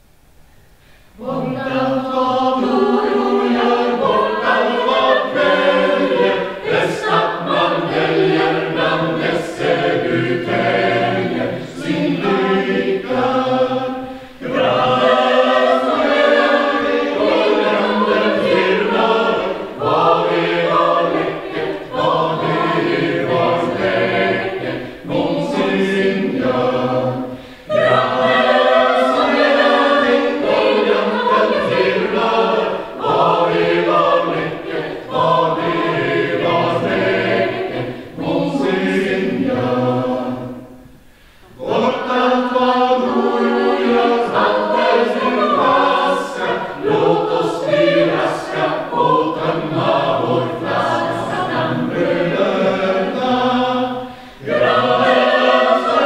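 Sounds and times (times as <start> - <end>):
chamber choir singing a cappella: 1.0 - 56.0.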